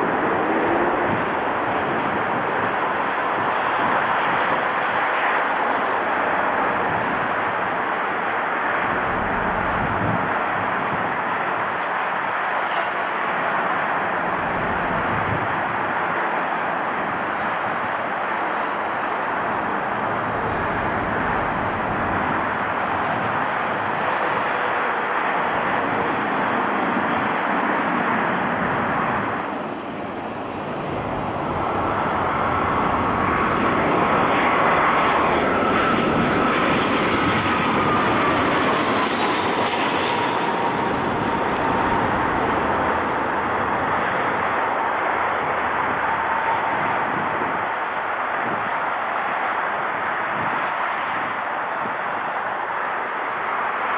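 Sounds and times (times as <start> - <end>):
high turbine whine: 0.0 - 53.8
jet airliner engine noise: 0.0 - 53.9.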